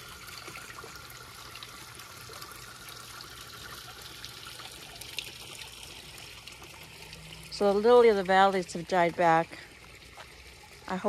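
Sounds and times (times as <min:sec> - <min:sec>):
water trickling: 0:00.0 - 0:11.0.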